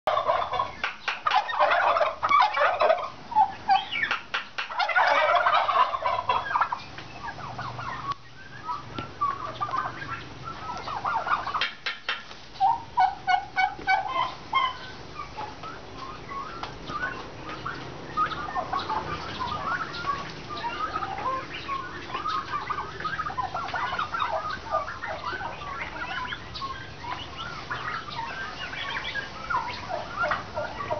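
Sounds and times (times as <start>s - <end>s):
turkeys calling: 0.1s - 30.9s.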